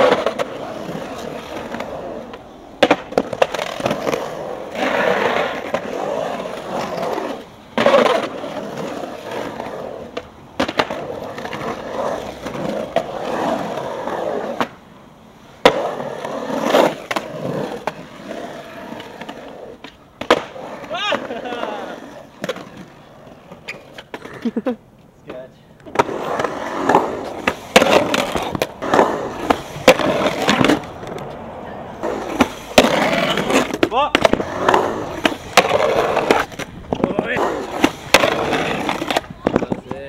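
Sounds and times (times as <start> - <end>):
skateboard clacking: 0.0 - 40.0
skateboard wheels rumbling on concrete: 0.0 - 40.0.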